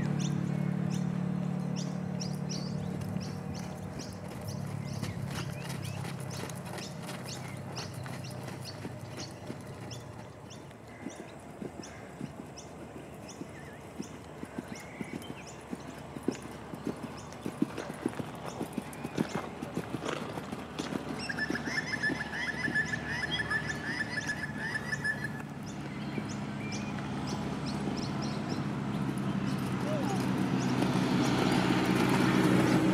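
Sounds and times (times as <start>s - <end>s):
horse hoofbeats on sand: 2.0s - 32.9s.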